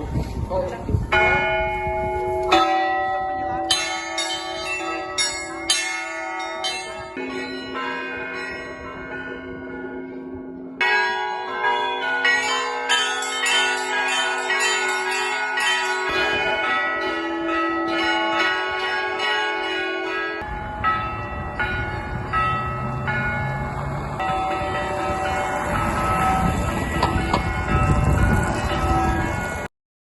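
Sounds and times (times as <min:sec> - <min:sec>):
church bells ringing: 0:00.0 - 0:29.7.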